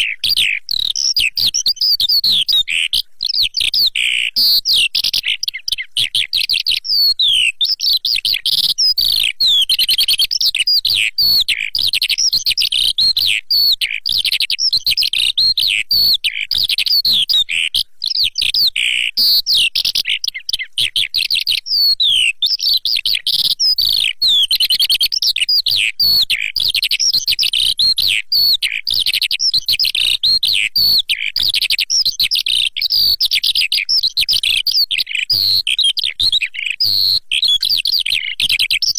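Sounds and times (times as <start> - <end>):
recorded lark song: 0.0 - 38.9.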